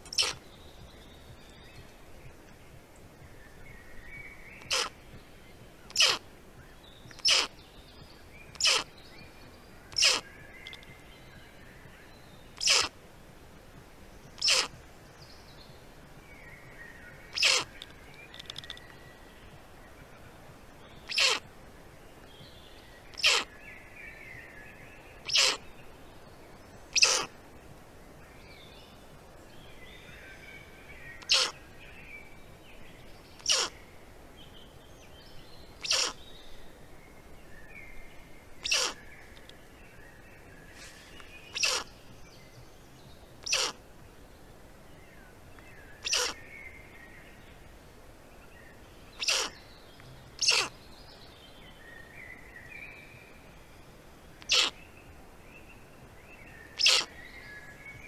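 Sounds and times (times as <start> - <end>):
faint songbird twittering: 0.0 - 58.0.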